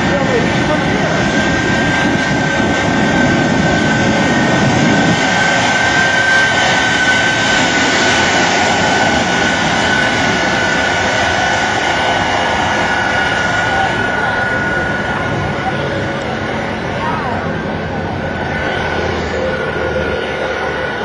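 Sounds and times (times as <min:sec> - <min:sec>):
high turbine whine: 0:00.0 - 0:21.0
turbine engines roaring: 0:00.0 - 0:21.0.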